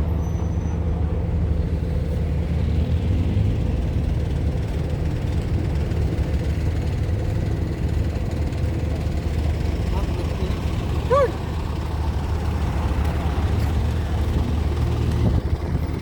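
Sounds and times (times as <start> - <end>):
heavy engines idling: 0.0 - 16.0.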